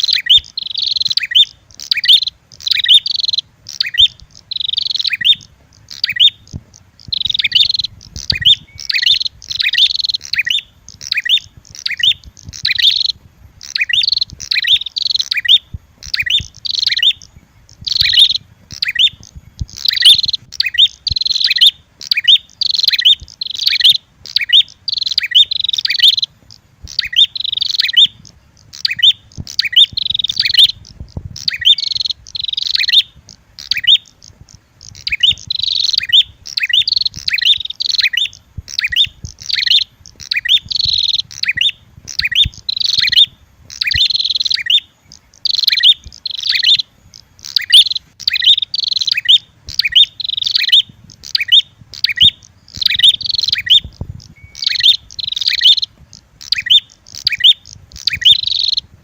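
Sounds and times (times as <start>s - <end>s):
bird chirping rapidly: 0.0s - 59.0s.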